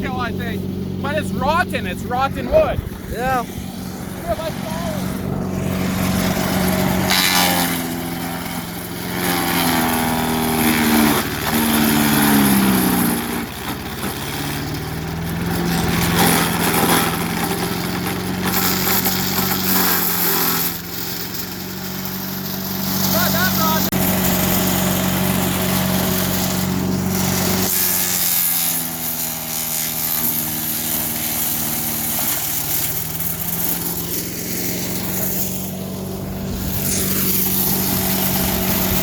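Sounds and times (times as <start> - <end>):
chipper engine running: 0.0 - 39.0.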